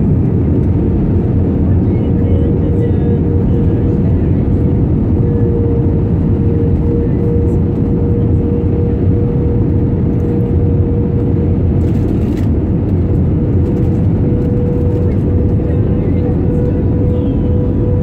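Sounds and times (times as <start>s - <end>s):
airflow over wing: 0.0s - 18.0s
jet engine rumble: 0.0s - 18.0s
steady hum: 0.0s - 18.0s.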